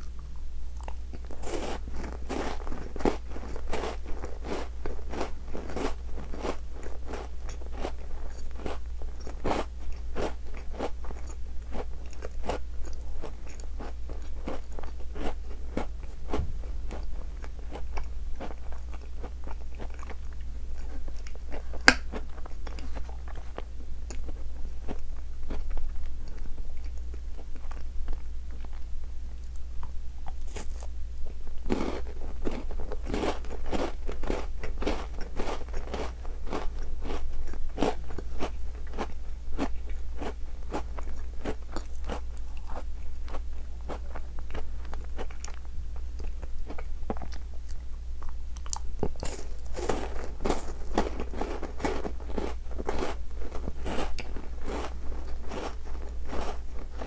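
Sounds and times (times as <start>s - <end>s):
chewing and crunching biscuits: 0.0s - 57.0s.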